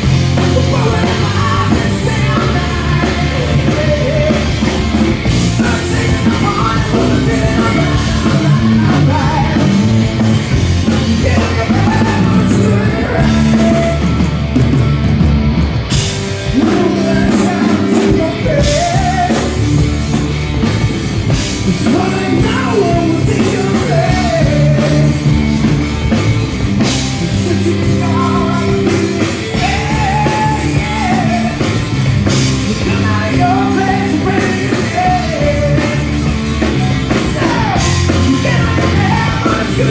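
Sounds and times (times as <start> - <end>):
hard rock band playing: 0.0 - 39.9
sliding guitar lead line: 0.0 - 39.9.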